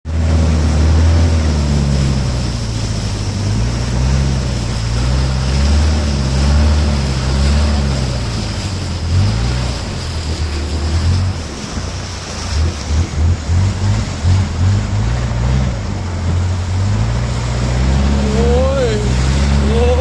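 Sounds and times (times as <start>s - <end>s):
motorboat engine running: 0.0s - 20.0s
rushing water: 0.1s - 20.0s.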